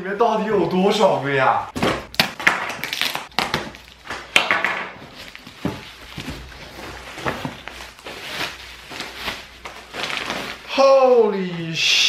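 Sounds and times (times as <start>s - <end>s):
plastic packing rustling: 1.8s - 11.6s.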